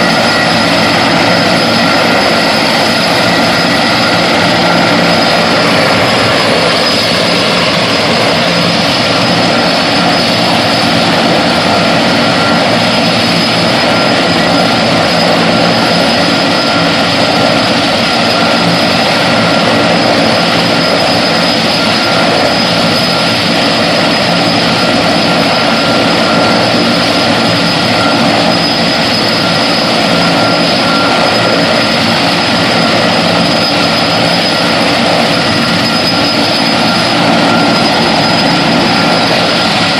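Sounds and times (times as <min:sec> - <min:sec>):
helicopter rotors rushing: 0:00.0 - 0:39.9
helicopter turbine whine: 0:00.0 - 0:39.9.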